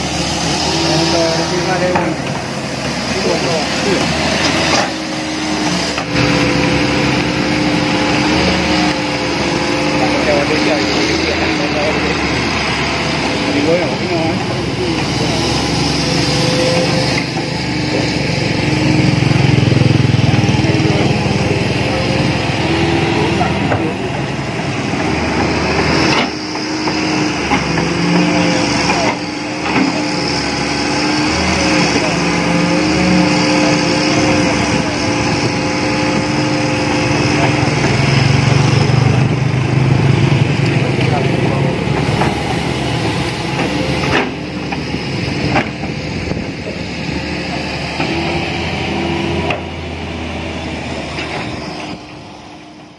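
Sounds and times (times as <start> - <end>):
excavator engine running: 0.0 - 52.9.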